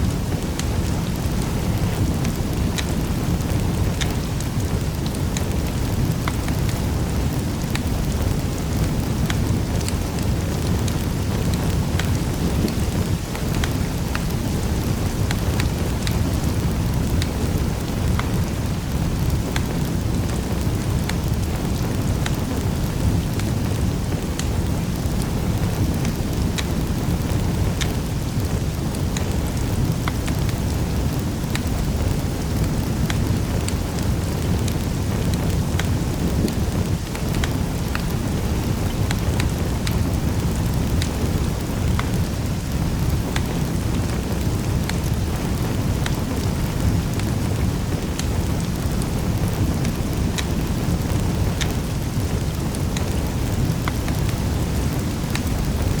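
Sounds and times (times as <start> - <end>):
wood fire burning: 0.0 - 56.0.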